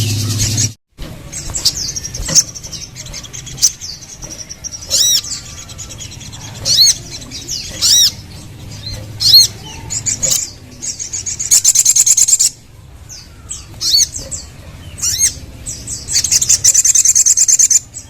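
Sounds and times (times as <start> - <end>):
loud humming: 0.0 - 16.7
bird chirping and calling: 0.0 - 18.0.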